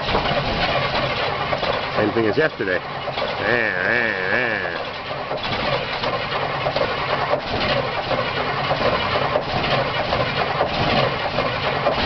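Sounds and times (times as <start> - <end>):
engine cranking on starter: 0.0 - 12.0.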